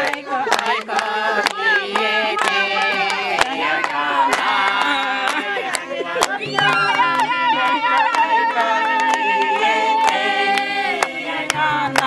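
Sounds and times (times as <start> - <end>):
handclaps: 0.0 - 12.0
women singing together: 0.0 - 12.0.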